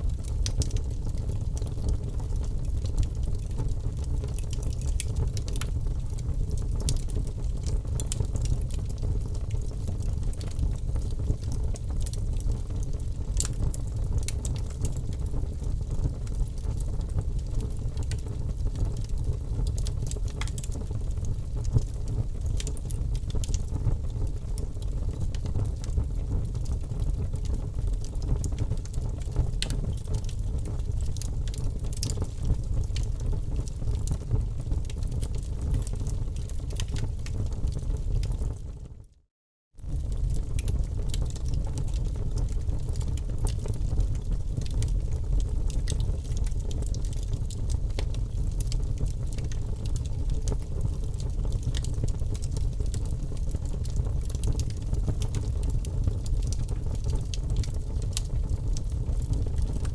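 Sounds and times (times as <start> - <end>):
wood fire crackling: 0.0 - 38.8, 39.8 - 59.9.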